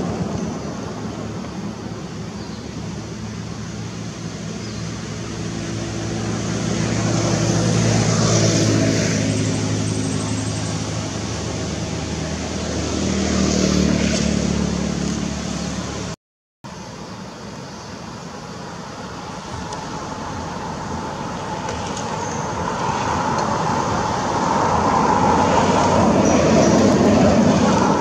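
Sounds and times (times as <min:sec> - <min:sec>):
passing traffic: 0:00.0 - 0:28.0
vehicle engine humming: 0:00.0 - 0:28.0.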